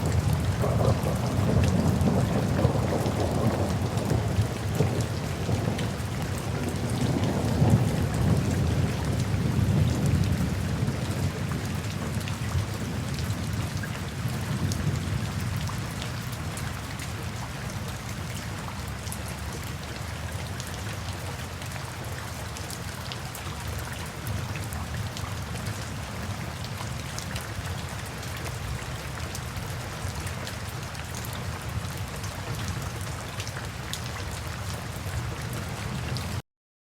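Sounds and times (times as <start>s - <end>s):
steady rain pattering: 0.0s - 36.4s.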